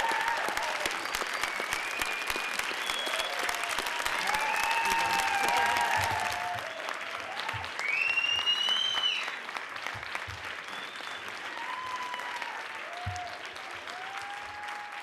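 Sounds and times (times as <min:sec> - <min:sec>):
audience applauding: 0:00.0 - 0:15.0
people cheering: 0:00.0 - 0:15.0.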